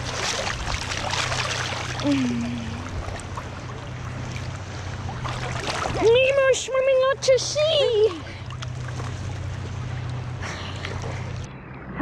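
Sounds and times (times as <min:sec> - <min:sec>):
boat engine idling: 0:00.0 - 0:12.0
water splashing and lapping: 0:00.0 - 0:12.0.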